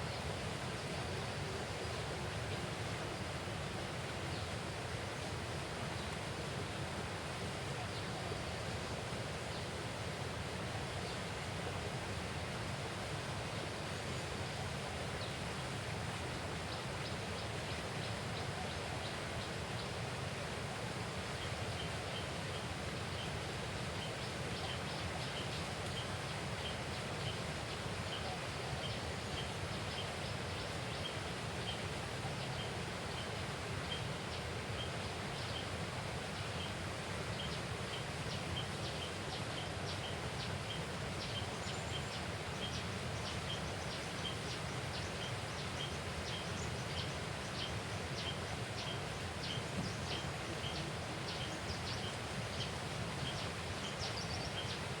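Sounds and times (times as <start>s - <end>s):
moving water: 0.0s - 55.0s
wind: 0.0s - 55.0s.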